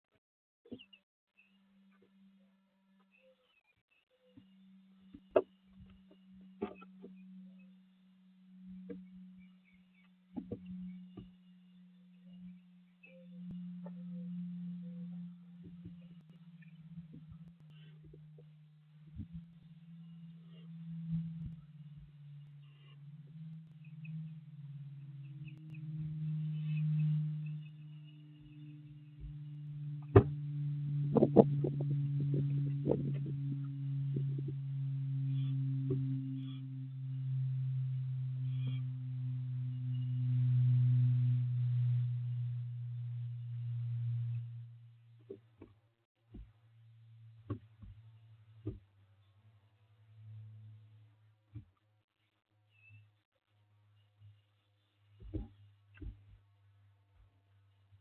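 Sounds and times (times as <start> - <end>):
low hum: 0.7 - 51.8.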